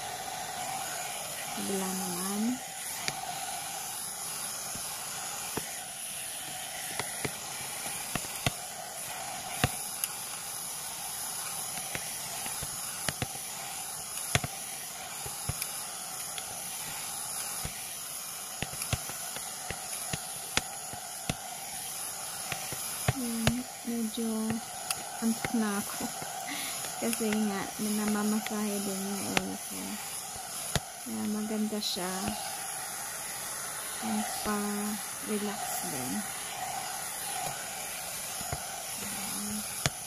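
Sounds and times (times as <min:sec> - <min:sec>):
hair dryer blowing air: 0:00.0 - 0:40.0.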